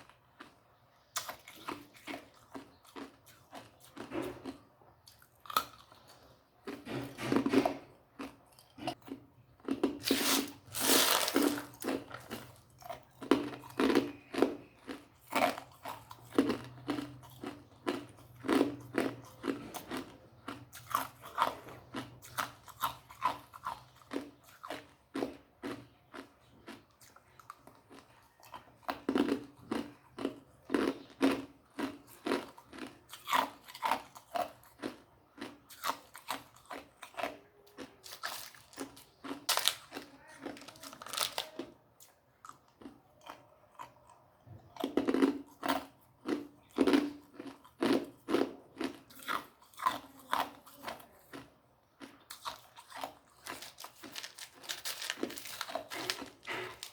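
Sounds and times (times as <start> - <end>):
person chewing ice: 0.0 - 56.9.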